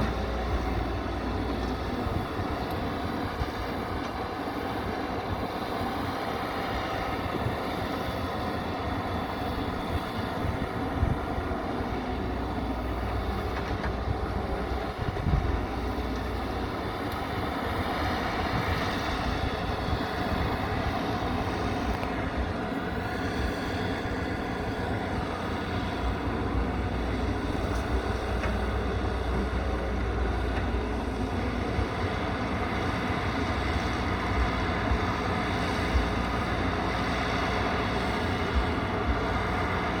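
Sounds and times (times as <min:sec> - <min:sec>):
diesel engine rumbling: 0:00.0 - 0:40.0.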